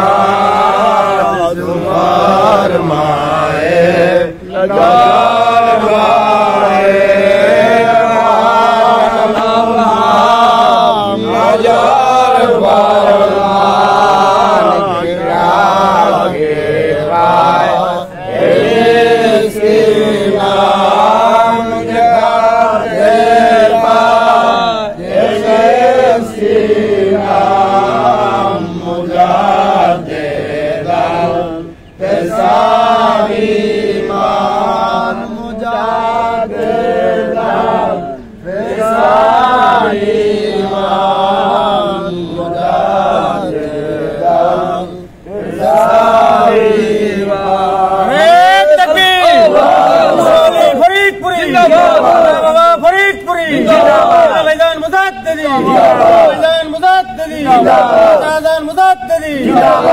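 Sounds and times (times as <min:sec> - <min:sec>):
men chanting: 0:00.0 - 0:59.9.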